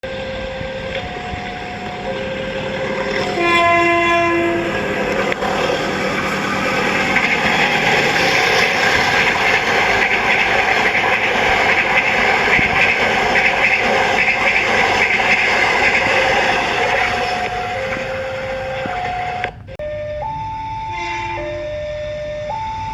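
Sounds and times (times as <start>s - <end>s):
train wheels rumbling on rails: 0.0s - 19.8s
locomotive air horn: 0.0s - 22.9s.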